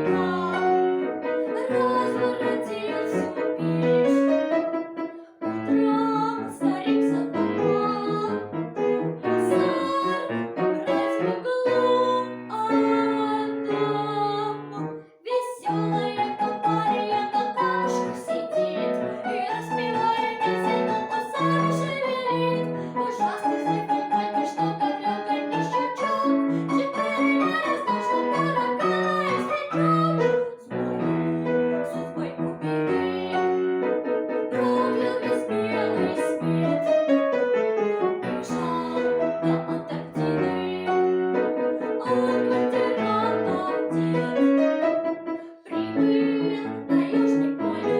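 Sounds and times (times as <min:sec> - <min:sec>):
brisk piano piece: 0:00.0 - 0:15.0, 0:15.7 - 0:47.9.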